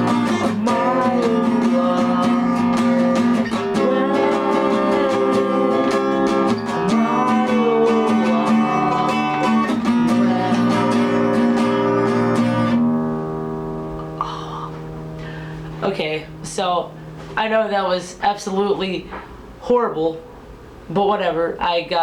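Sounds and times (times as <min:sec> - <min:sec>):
acoustic guitar strumming: 0:00.0 - 0:19.2.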